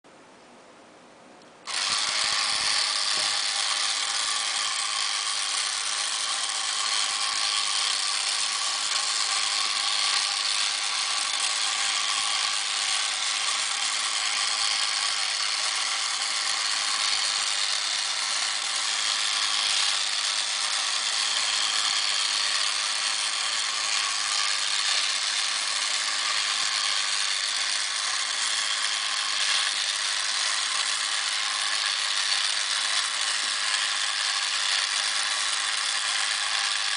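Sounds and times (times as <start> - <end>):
toy motor and gears whirring: 1.6 - 36.9.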